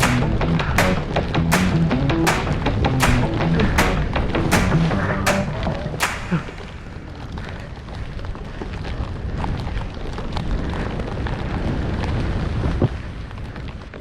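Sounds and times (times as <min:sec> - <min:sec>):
wind buffeting microphone: 0:02.6 - 0:14.0.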